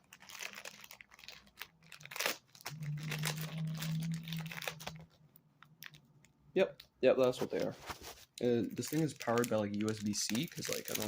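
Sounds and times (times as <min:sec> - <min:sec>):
low steady hum: 0:00.0 - 0:09.8
plastic packaging crinkling: 0:00.0 - 0:11.0.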